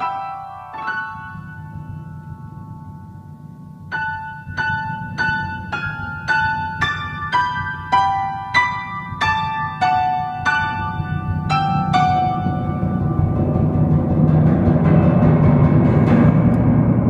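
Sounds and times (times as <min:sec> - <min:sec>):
grand piano single notes: 0:00.0 - 0:17.0.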